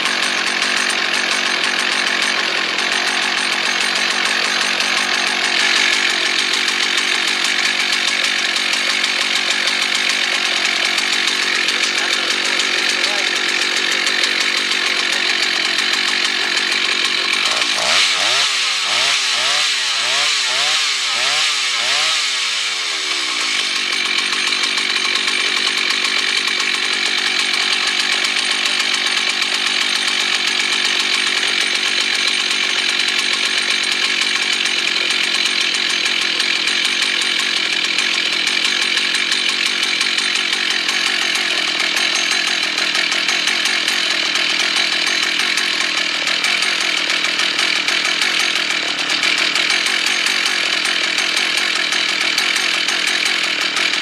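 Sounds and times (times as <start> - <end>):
chainsaw running at high revs: 0.0 - 54.0.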